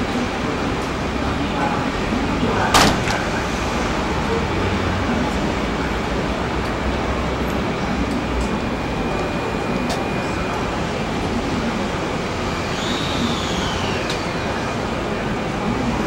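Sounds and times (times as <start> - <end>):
faint train whine: 0.0 - 16.0
train platform noise: 0.0 - 16.0.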